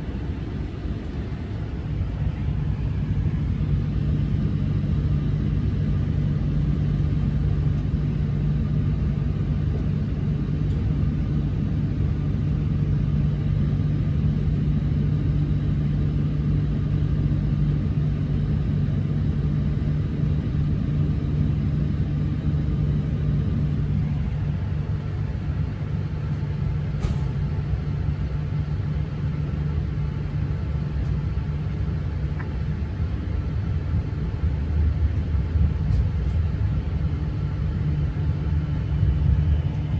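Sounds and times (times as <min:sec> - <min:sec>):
constant droning tone: 0:00.0 - 0:39.9
train rumble and hum: 0:00.0 - 0:39.9.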